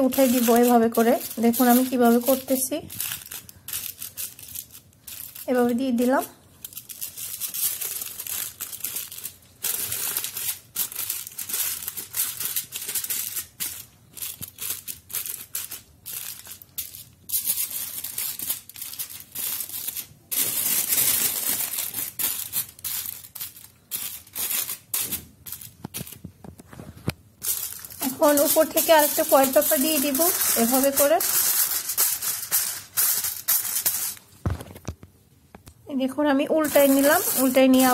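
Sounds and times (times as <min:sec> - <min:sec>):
aluminium foil crinkling: 0:00.0 - 0:35.0, 0:36.4 - 0:37.9.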